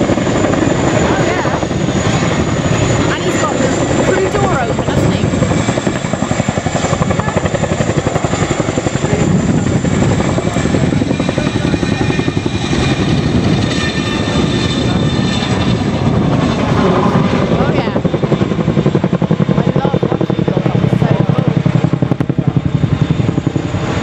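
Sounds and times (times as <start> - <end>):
helicopter rotor blade slap: 0.0 - 24.0
high engine whine: 0.0 - 24.0.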